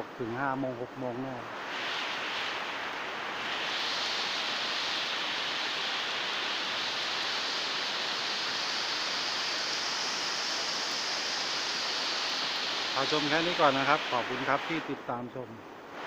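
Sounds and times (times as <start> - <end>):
steady rain: 0.1 - 16.0.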